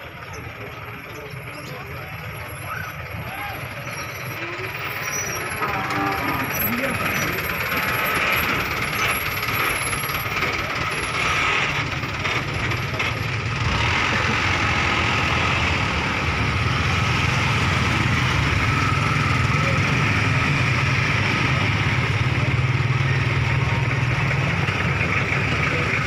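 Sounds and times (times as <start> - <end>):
truck engine driving past: 0.0 - 26.0
motorcycles passing: 0.2 - 26.0.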